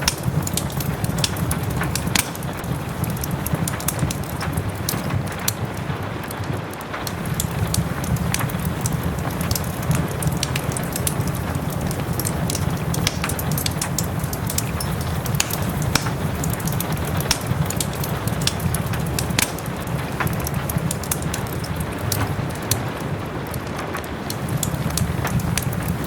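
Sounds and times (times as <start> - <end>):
soft rain hiss: 0.0 - 26.0
wood fire crackling and popping: 0.0 - 26.0.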